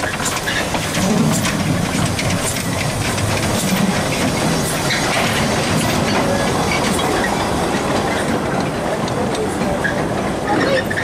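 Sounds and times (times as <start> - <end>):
freight train rumbling past: 0.0 - 11.0
wheels clicking over rail joints: 0.0 - 11.0.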